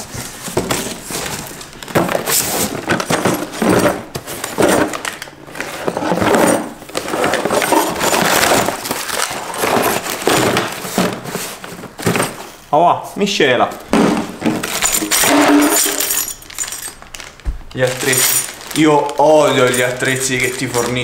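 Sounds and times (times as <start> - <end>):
bubble wrap and cardboard rustling: 0.0 - 12.7, 16.4 - 21.0.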